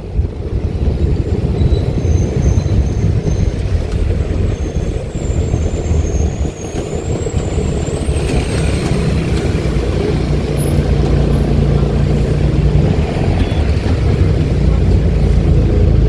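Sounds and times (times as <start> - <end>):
bus diesel engine: 0.0 - 16.0.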